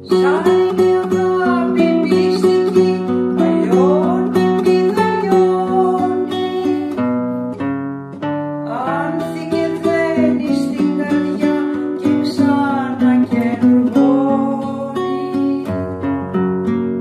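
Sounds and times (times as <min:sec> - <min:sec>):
person singing: 0:00.0 - 0:07.1, 0:08.6 - 0:16.0
classical guitar fingerpicking: 0:00.0 - 0:17.0.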